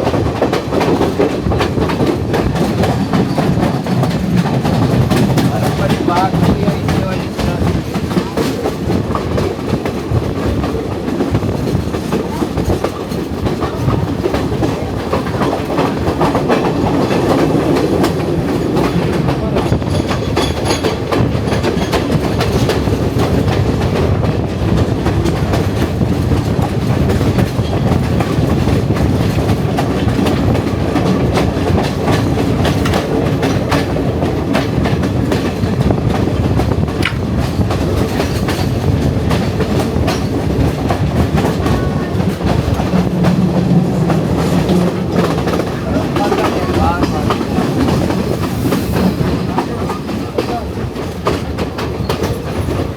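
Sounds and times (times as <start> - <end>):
clickety-clack of wheels: 0.0 - 52.9
train wheels rumbling on rails: 0.0 - 52.9.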